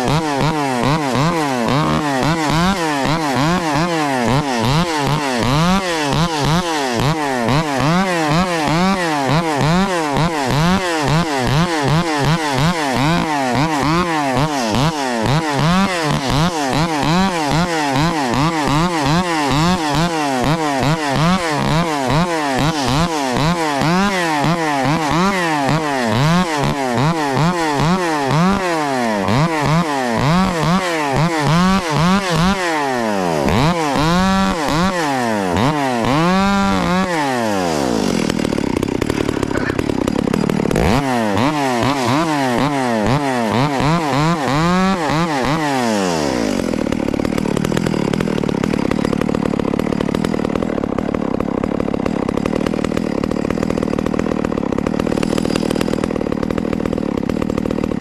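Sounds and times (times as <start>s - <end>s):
chainsaw revving loud: 0.0s - 58.0s.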